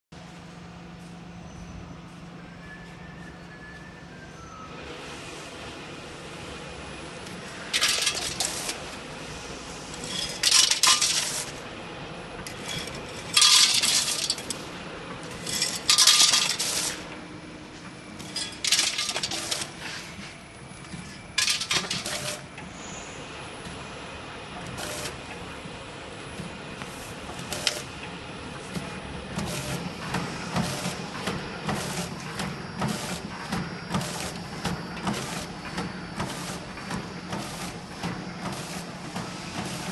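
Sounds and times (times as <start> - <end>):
packing machine running: 4.8 - 39.9.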